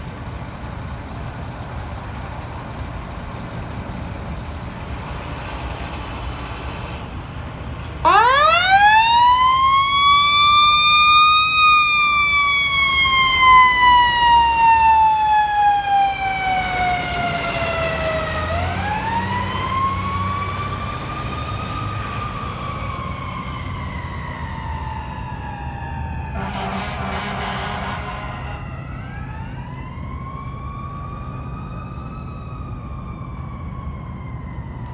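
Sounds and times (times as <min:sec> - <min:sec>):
fire truck siren: 0:00.0 - 0:34.9
low rumble of truck and traffic: 0:00.0 - 0:34.9.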